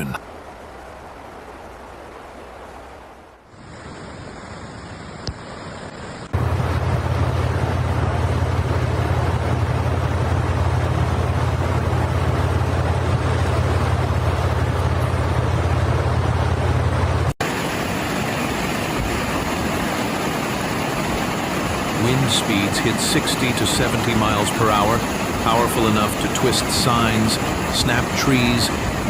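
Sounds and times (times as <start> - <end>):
hissing wind: 0.0 - 29.0.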